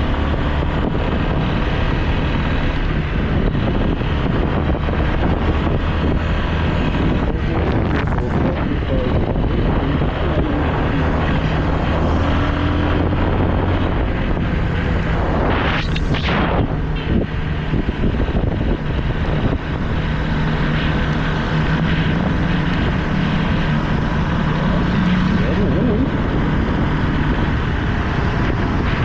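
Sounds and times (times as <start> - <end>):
motorcycle engine running: 0.0 - 29.0
wind buffeting microphone: 0.0 - 29.0
vehicle rushing past: 2.7 - 29.0.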